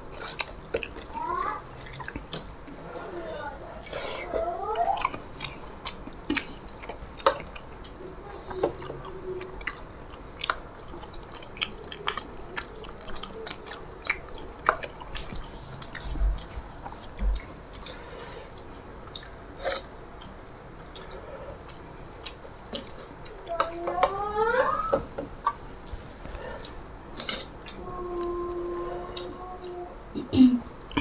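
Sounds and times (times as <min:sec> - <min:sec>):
wet chewing: 0:00.1 - 0:03.0, 0:03.8 - 0:29.8.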